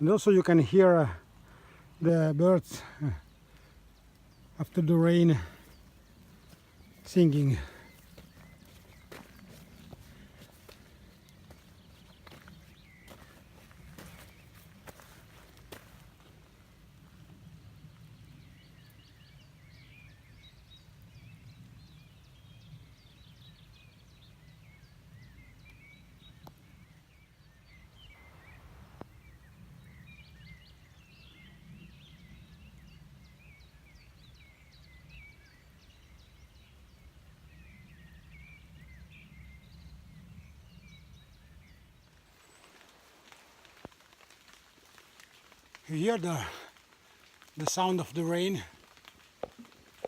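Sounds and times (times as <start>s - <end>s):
songbirds singing and chirping: 0.0s - 50.0s.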